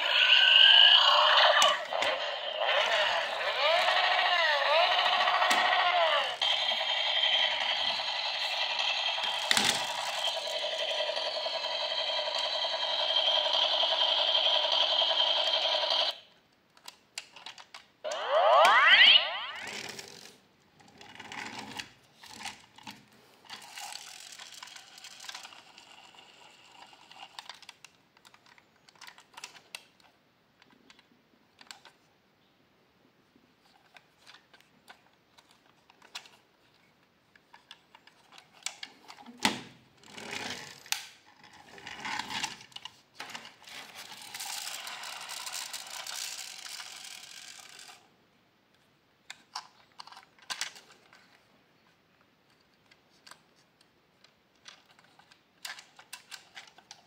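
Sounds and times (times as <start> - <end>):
plastic toy car clicks and knocks: 3.6 - 17.9, 19.6 - 32.0, 33.6 - 36.8, 37.4 - 48.0, 49.3 - 51.4, 52.5 - 57.0.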